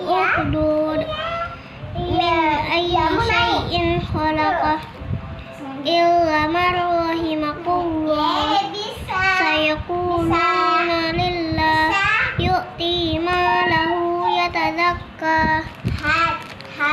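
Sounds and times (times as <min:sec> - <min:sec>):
girl chanting recitation: 0:00.0 - 0:04.9, 0:05.6 - 0:16.9.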